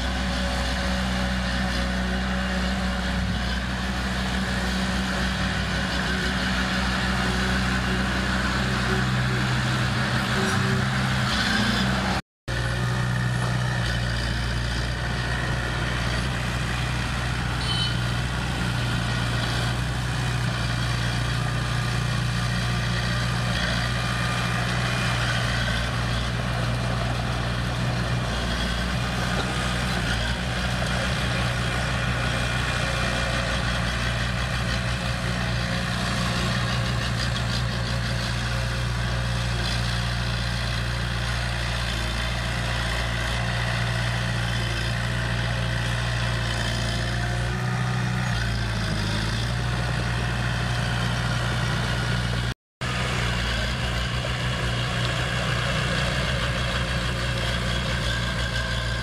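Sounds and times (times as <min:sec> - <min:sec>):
bulldozer diesel engine humming: 0:00.0 - 0:59.0.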